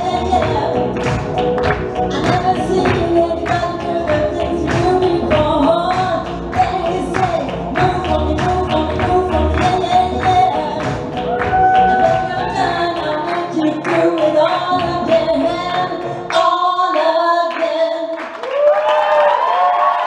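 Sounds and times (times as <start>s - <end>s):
flamenco-style backing music: 0.0s - 17.9s
woman singing into microphone: 0.0s - 18.2s.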